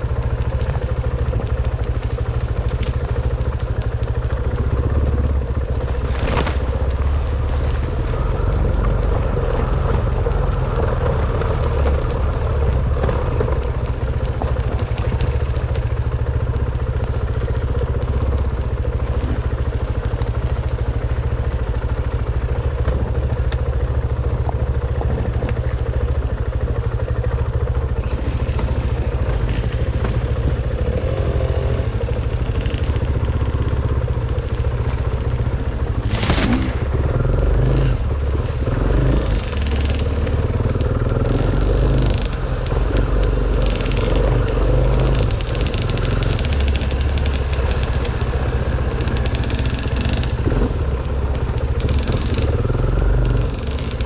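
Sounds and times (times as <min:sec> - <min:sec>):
bike rattling and knocking: 0:00.0 - 0:54.0
dirt bike engine running: 0:00.0 - 0:54.0.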